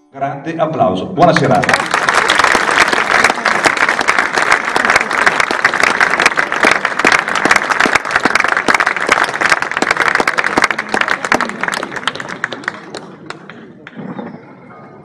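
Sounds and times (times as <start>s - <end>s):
audience applauding: 1.4s - 14.0s.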